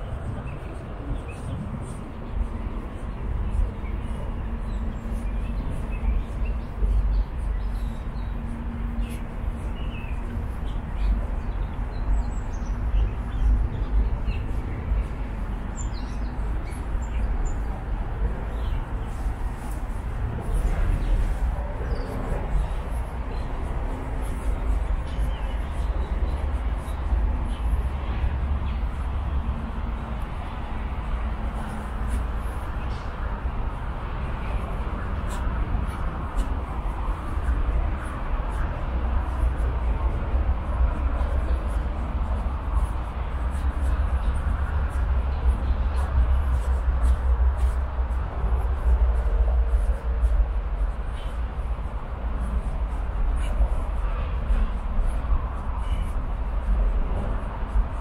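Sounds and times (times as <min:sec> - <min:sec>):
small birds chirping: 0:00.0 - 0:47.8
distant city traffic: 0:00.0 - 0:58.0
steady low rumble: 0:00.0 - 0:58.0.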